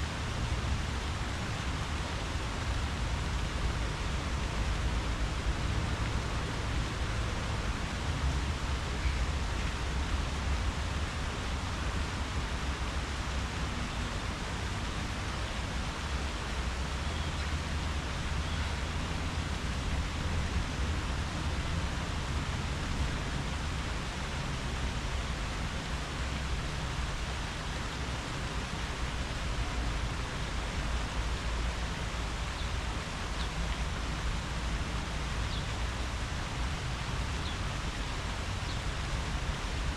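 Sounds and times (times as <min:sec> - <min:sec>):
wind rustling tree leaves: 0:00.0 - 0:39.9.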